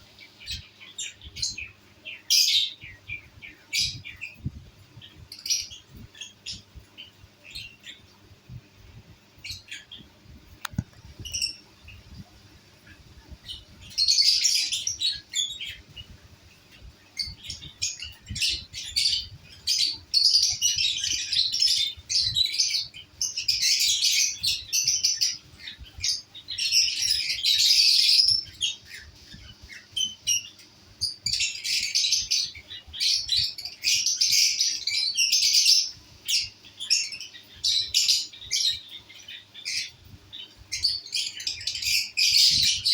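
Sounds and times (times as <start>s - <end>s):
lovebirds chattering and screeching: 0.0s - 42.9s.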